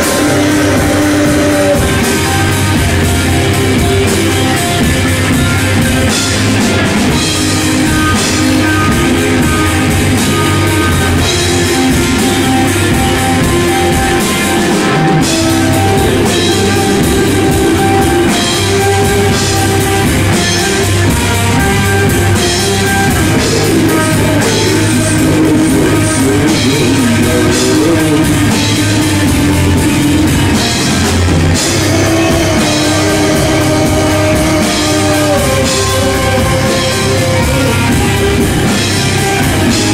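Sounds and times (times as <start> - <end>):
bass guitar: 0.0 - 39.9
distorted electric guitars: 0.0 - 39.9
pounding drum kit: 0.0 - 39.9.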